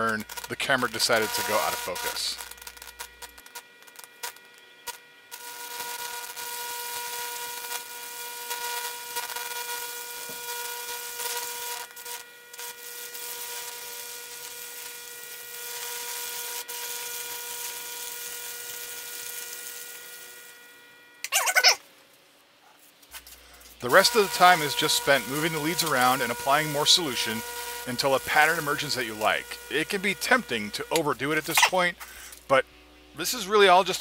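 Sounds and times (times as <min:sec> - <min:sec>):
electrical buzz with hiss: 0:00.0 - 0:21.9, 0:23.1 - 0:34.0.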